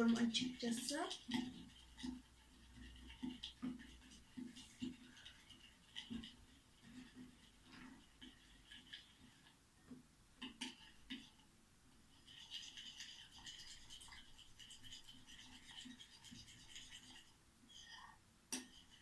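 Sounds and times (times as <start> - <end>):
slime being stirred: 0.0 - 9.6, 10.4 - 19.0.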